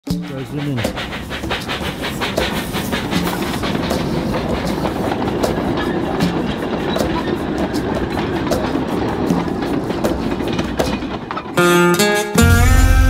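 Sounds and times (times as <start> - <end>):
steam locomotive running: 0.0 - 13.0
wheels clicking over rails: 0.1 - 12.1
steam hissing: 0.1 - 13.0.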